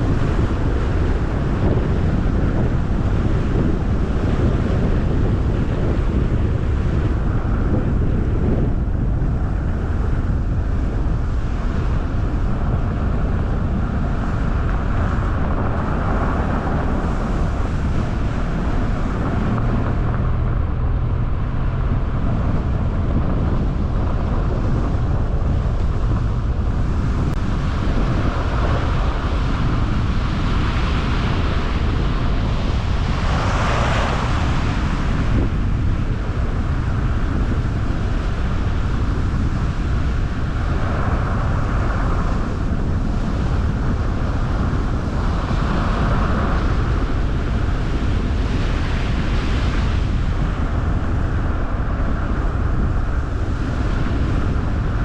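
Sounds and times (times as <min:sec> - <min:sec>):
car tyre and wind noise: 0:00.0 - 0:55.0.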